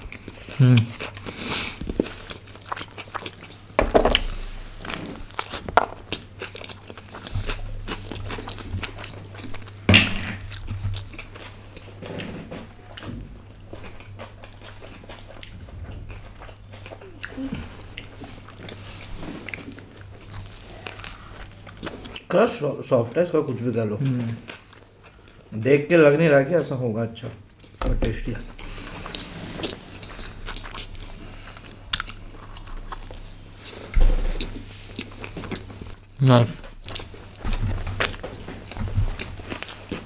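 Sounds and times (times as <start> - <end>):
chewing pizza: 0.0 - 9.8, 10.4 - 40.0.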